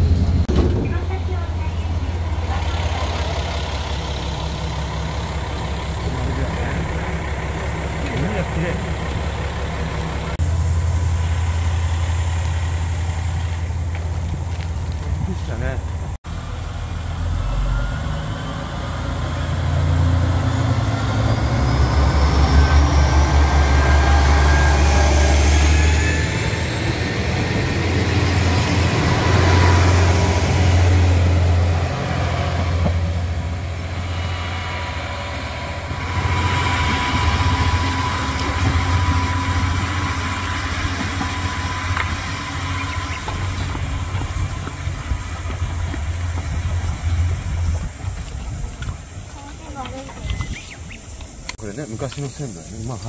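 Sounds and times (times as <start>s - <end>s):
diesel train rumbling: 0.0s - 53.0s
train engine whine: 0.0s - 53.0s.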